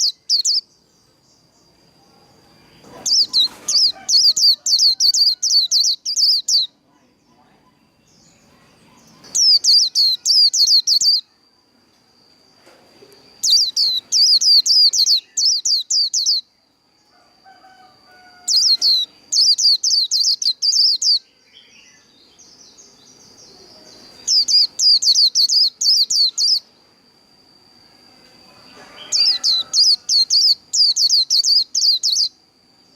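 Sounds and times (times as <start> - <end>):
faint steady high tone: 0.0 - 32.9.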